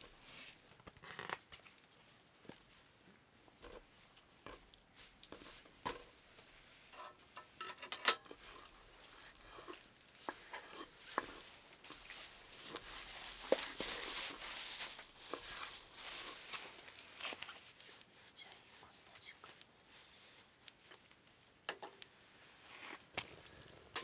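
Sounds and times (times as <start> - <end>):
crackling hiss of cooking: 0.0 - 24.0.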